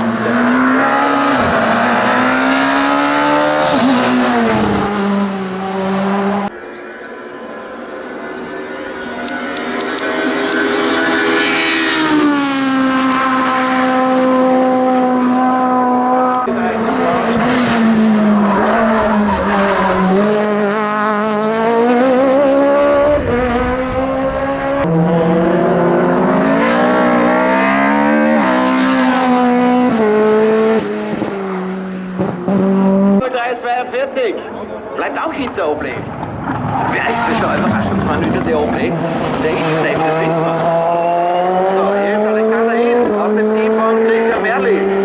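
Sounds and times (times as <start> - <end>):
race car engines running hard: 0.0 - 45.0.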